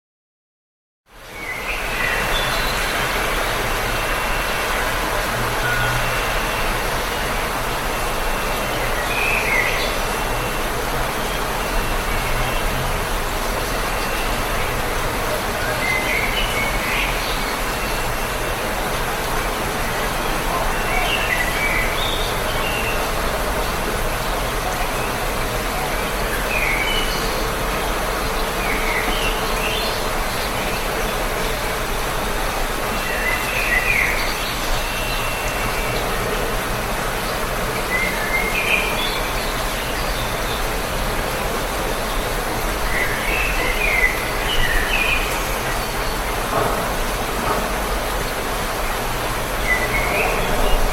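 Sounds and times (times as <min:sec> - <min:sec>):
steady rain falling: 0:01.1 - 0:50.9.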